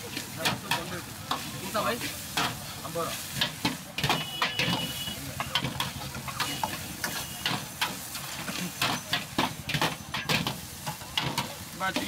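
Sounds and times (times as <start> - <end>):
ladle clanking against wok: 0.0 - 12.0
rice sizzling: 0.0 - 12.0.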